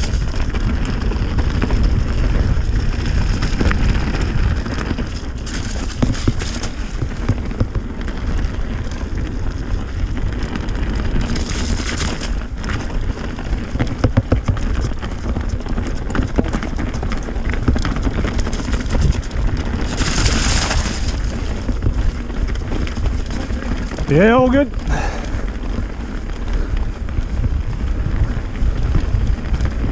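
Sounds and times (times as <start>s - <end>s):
bike clattering over bumps: 0.0s - 29.9s
bike tyres rumbling: 0.0s - 29.9s
wind on microphone: 0.0s - 29.9s.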